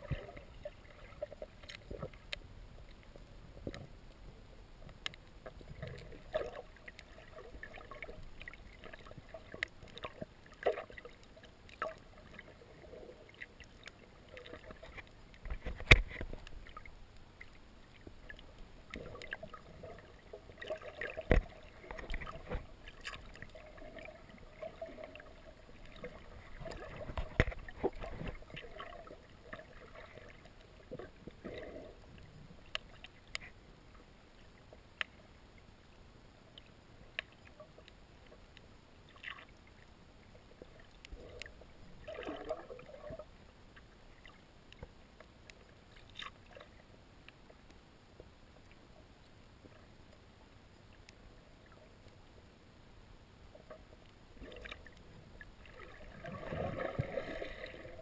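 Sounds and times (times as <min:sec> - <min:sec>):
underwater gurgling: 0:00.0 - 0:35.7, 0:36.5 - 0:47.6, 0:53.5 - 0:58.0.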